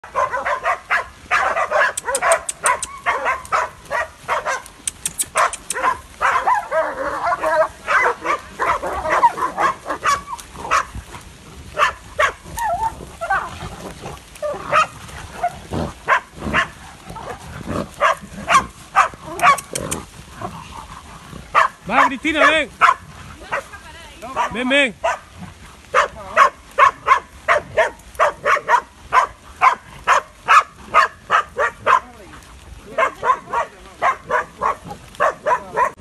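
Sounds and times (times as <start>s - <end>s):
dogs barking excitedly: 0.0s - 36.0s.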